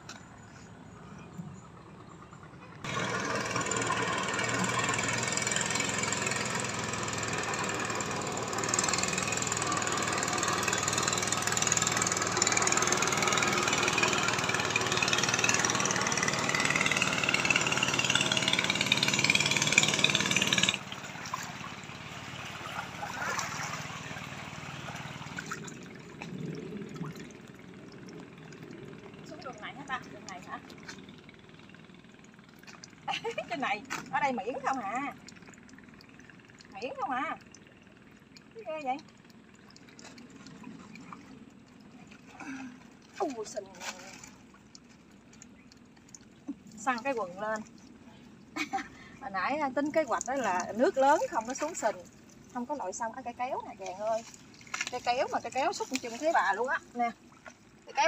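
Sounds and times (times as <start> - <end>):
outdoor background: 0.0 - 58.0
motor running: 2.8 - 58.0.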